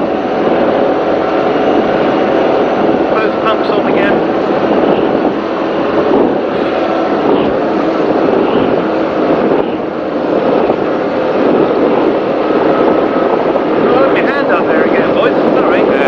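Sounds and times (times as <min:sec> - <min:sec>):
powerboat engine drone: 0:00.0 - 0:16.0
wind and water rush: 0:00.0 - 0:16.0.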